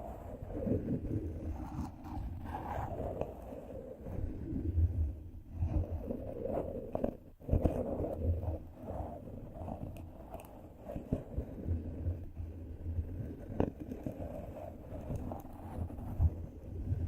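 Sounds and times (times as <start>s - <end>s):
rubbing against microphone: 0.0s - 17.0s.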